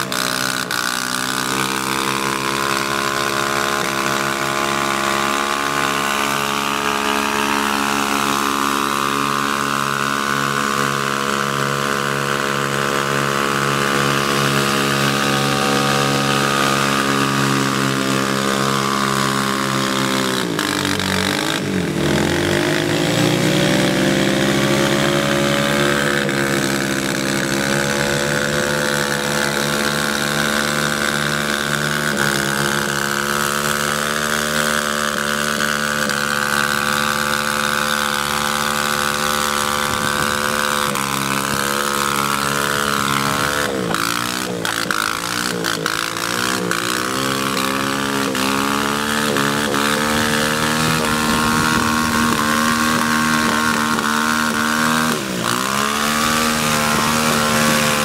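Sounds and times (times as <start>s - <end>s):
motorbike engine running hard: 0.0s - 58.0s.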